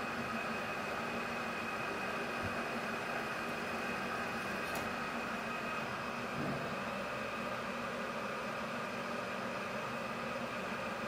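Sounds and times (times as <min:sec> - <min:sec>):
metal lathe humming and whining: 0:00.0 - 0:11.0.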